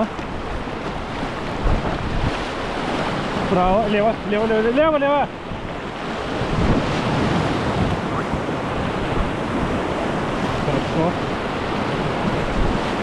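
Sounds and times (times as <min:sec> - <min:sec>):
wind noise on microphone: 0:00.0 - 0:04.6, 0:05.4 - 0:13.0
river water rushing: 0:00.0 - 0:13.0.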